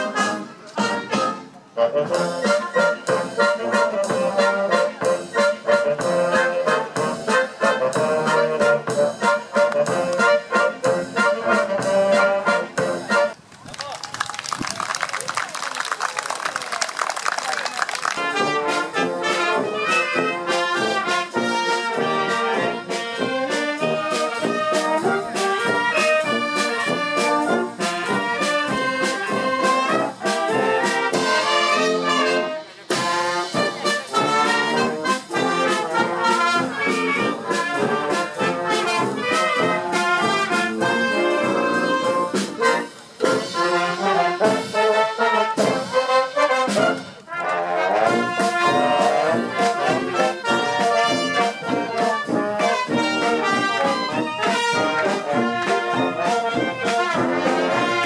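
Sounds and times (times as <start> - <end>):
drums keeping a steady beat: 0.0 - 13.6, 16.9 - 58.0
wind band playing: 0.0 - 58.0.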